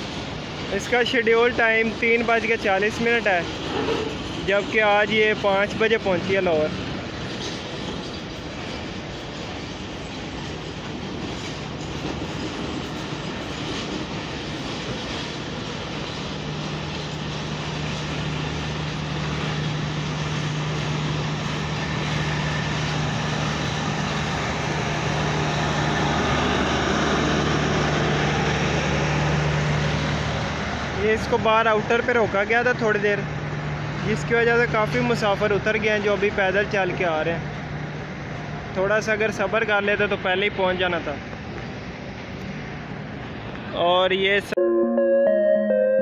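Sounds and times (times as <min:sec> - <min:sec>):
train wheels rumbling and clacking: 0:00.0 - 0:43.7.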